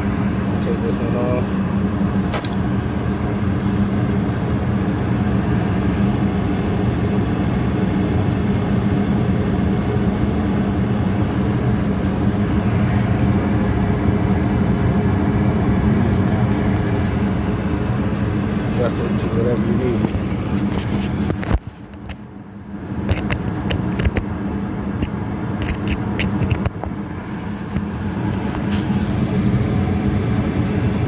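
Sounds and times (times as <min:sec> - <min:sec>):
gas furnace running: 0:00.0 - 0:31.0.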